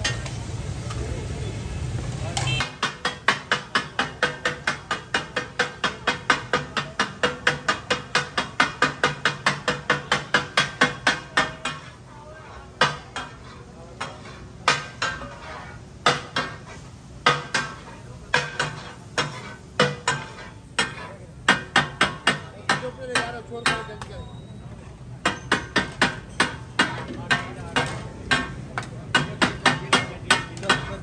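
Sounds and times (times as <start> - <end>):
metal spatulas striking a griddle: 0.0 - 1.0, 2.4 - 24.1, 25.2 - 31.0.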